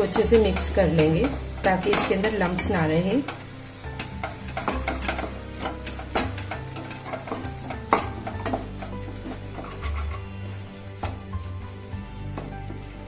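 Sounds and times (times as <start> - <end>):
mixture sizzling: 0.0 - 13.0
wooden spatula scraping pan: 0.0 - 13.0.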